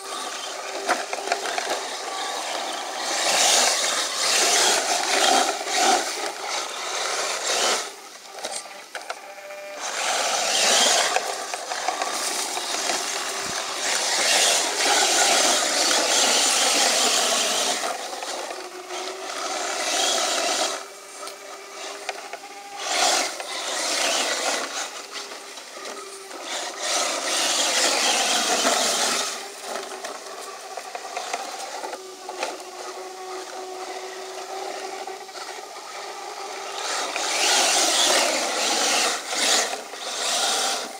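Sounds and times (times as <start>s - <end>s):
tyres scraping sand: 0.0s - 8.6s, 9.8s - 40.9s
model truck motor whining: 0.0s - 40.9s.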